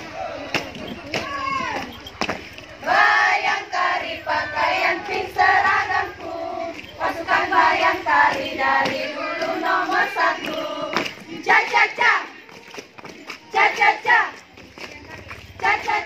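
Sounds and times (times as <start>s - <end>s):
women singing together: 0.0s - 16.0s.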